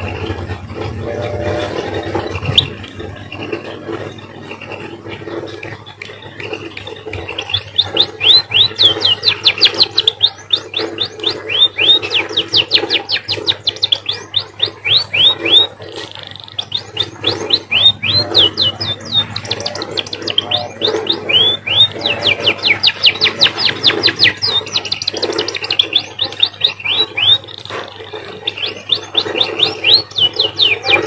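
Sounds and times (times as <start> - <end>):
finch singing sharp chirps: 5.6 - 31.0.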